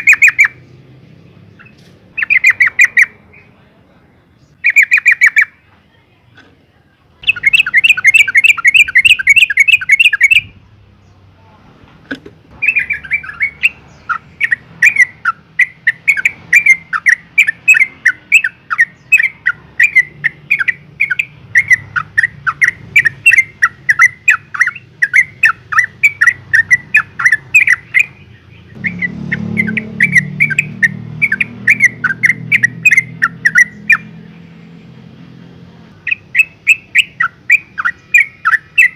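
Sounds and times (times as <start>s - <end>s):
bird chattering call notes: 0.0s - 0.6s, 1.5s - 3.5s, 4.5s - 5.6s, 7.2s - 10.6s, 12.5s - 34.2s, 36.0s - 38.9s.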